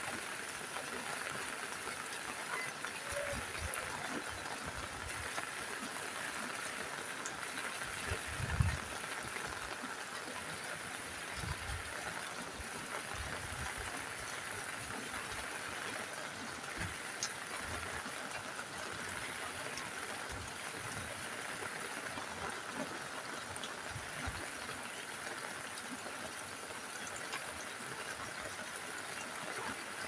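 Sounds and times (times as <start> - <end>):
rain on a roof: 0.0 - 30.0.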